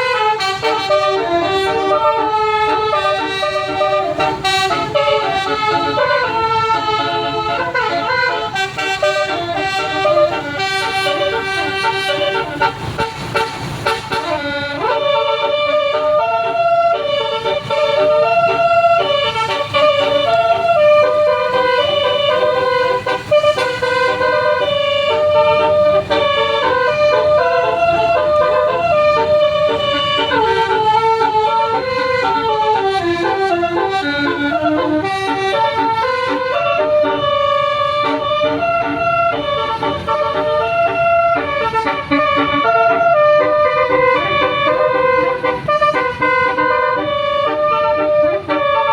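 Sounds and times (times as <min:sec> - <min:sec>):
bus horn playing a tune: 0:00.0 - 0:48.9.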